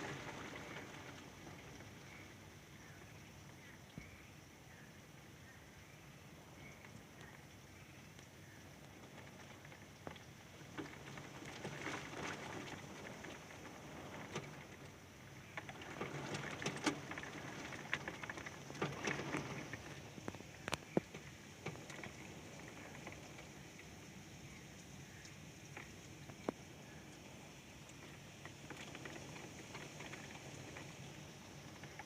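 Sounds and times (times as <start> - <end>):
rain ticking on a surface: 0.0 - 32.0.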